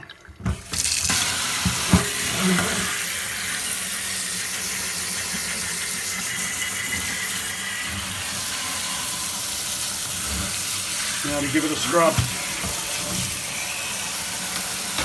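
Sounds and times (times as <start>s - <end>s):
water jet spraying in a sink: 0.5s - 15.0s.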